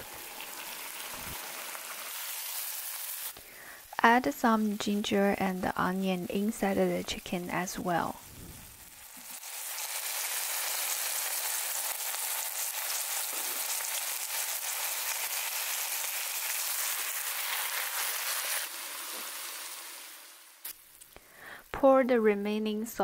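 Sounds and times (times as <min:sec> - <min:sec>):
oil sizzling and crackling: 0:00.0 - 0:21.2.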